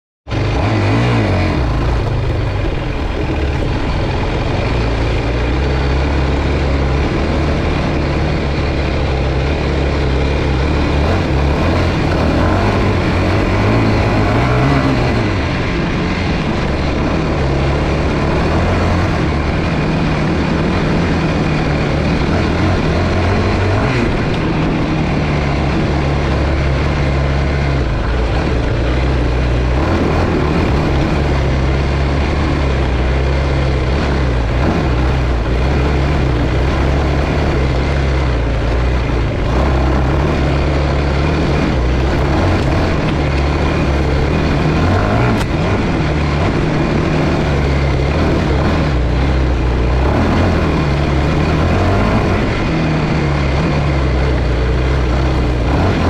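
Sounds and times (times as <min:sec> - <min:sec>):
quad bike engine revving: 0:00.3 - 0:56.0.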